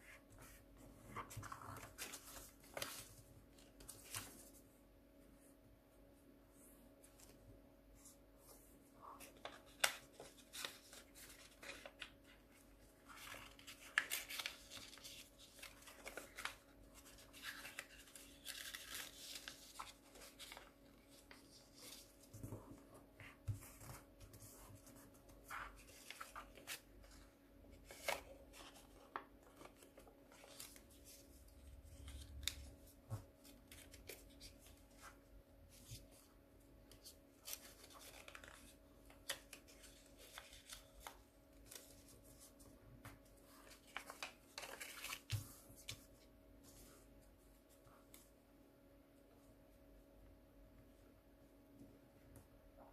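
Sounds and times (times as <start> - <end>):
paper crinkling and rustling: 0.4 - 4.6, 7.1 - 48.3.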